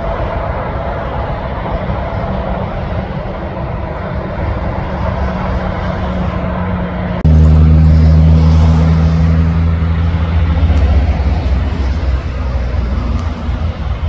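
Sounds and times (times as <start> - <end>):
truck diesel engines droning: 0.0 - 14.0.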